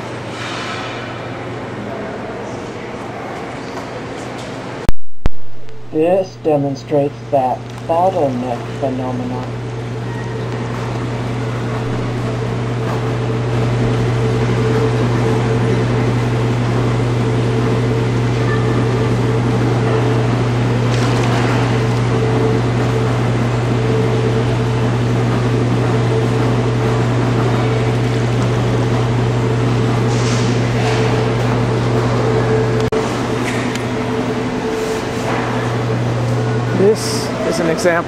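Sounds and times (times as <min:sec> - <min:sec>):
electric air blower humming: 0:05.6 - 0:38.0.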